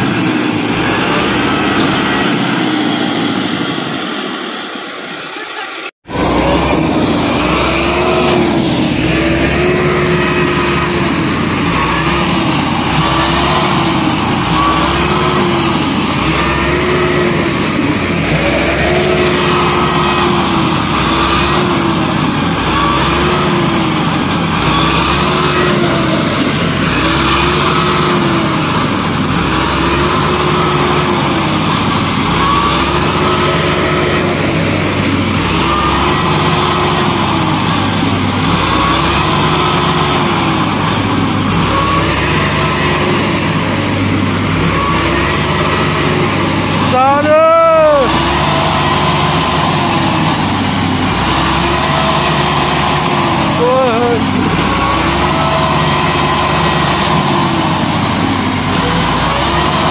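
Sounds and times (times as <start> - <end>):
tractor engine straining: 0.0 - 59.9.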